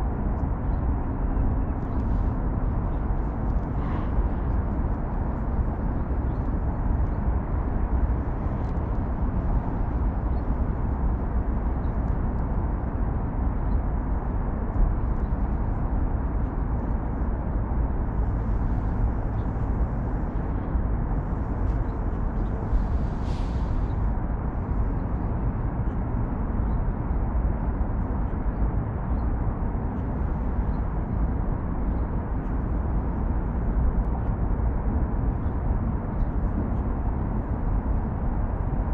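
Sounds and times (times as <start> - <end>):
distant city traffic rumble: 0.0 - 38.9.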